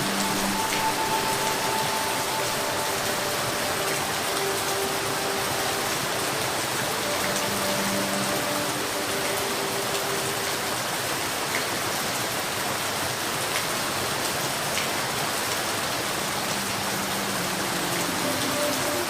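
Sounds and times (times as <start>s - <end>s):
steady rainfall hiss: 0.0s - 19.0s.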